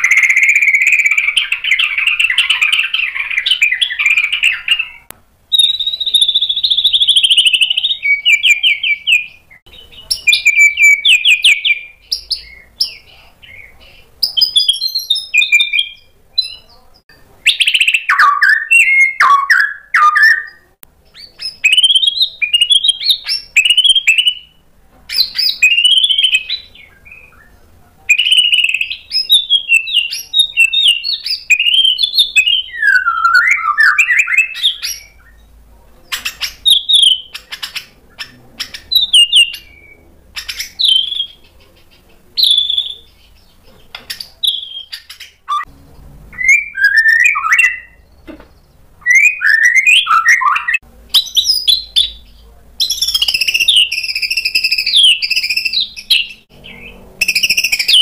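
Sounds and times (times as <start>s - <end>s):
bird singing whistles and trills: 0.0s - 16.7s, 17.4s - 35.5s, 36.3s - 41.5s, 42.4s - 43.6s, 44.4s - 45.7s, 46.3s - 48.3s, 49.0s - 58.0s.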